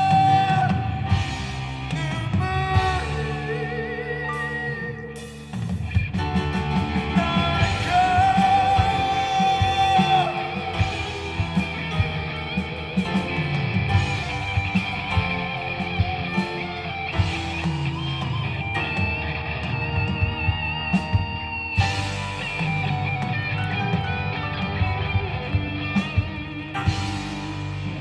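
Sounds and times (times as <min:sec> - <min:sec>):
bass: 0:00.0 - 0:28.0
drums: 0:00.0 - 0:28.0
guitar: 0:00.0 - 0:28.0.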